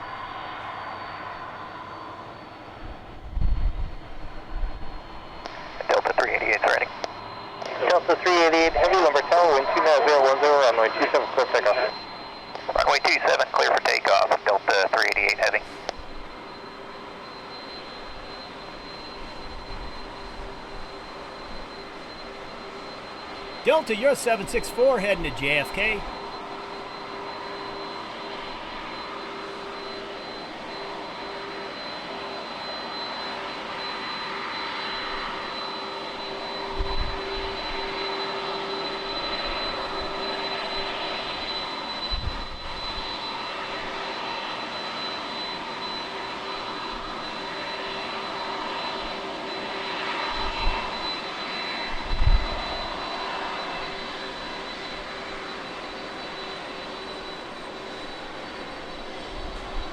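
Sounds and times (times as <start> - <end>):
jet engines at takeoff power: 0.0 - 59.9.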